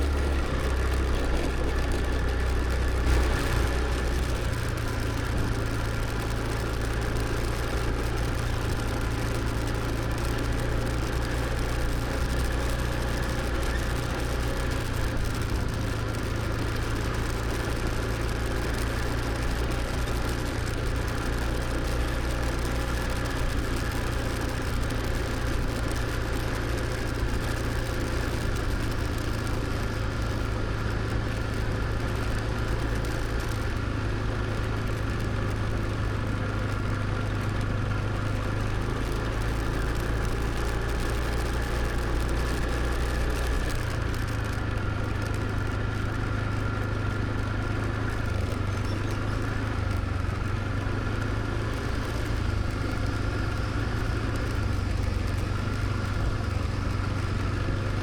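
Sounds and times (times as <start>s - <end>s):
motor scooter engine running: 0.0s - 58.0s
road and wind noise: 0.0s - 58.0s.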